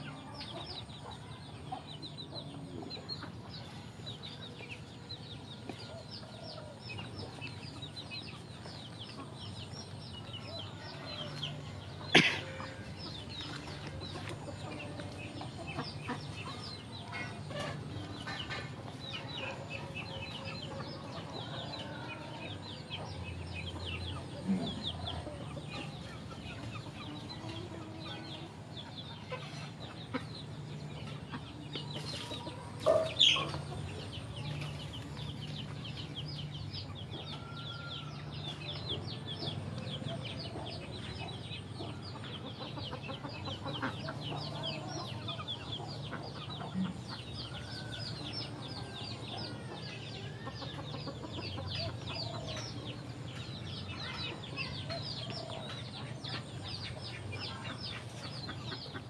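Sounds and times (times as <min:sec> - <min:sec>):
chickens clucking: 0:00.0 - 0:59.0
chorus of high peeps: 0:00.0 - 0:59.0.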